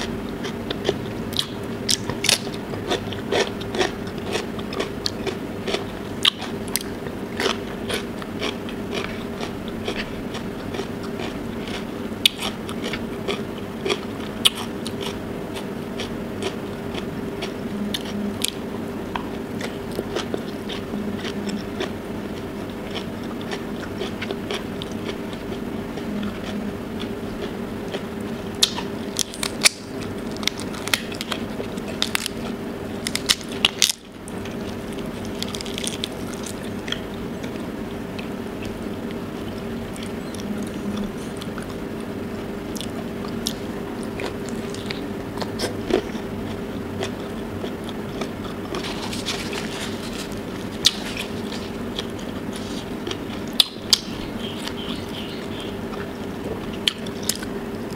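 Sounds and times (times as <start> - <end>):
crunching and chewing: 0.0 - 57.9
steady low hum: 0.0 - 57.9.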